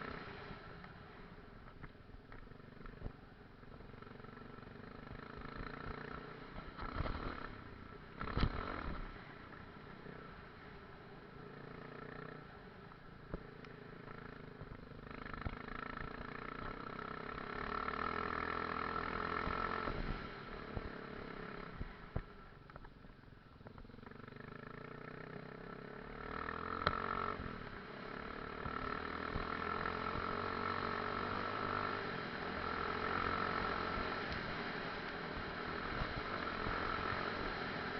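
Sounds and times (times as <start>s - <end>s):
motorcycle engine revving: 0.0s - 22.4s, 23.6s - 37.9s.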